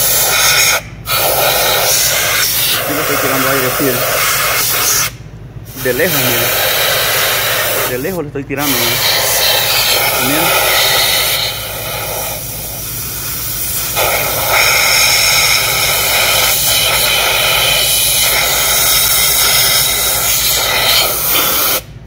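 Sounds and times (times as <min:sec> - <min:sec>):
compressed air hissing: 0:00.0 - 0:21.9.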